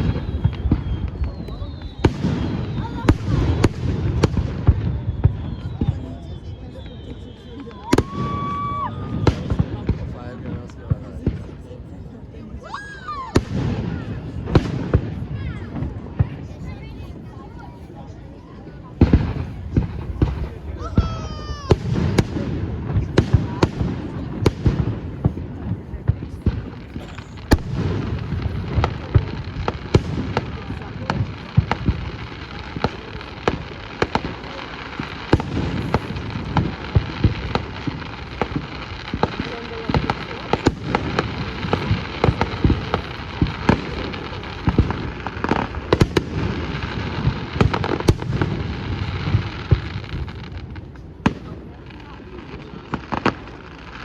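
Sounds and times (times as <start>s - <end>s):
fireworks bangs and pops: 0.0s - 54.0s.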